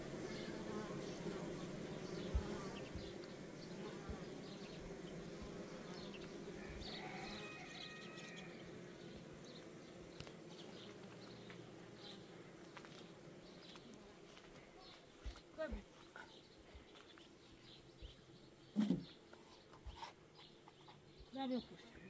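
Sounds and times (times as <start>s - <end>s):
insect buzzing: 0.0s - 21.7s.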